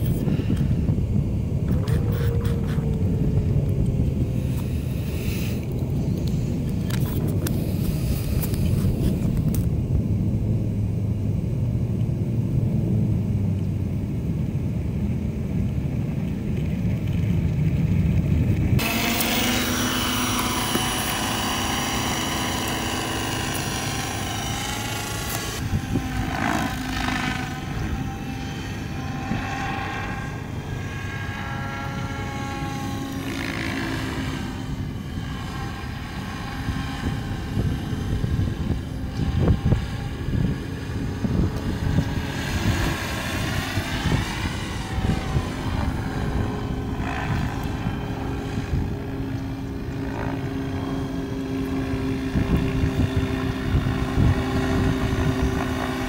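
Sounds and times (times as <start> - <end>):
rc helicopter rotor and motor whine: 0.0 - 56.0.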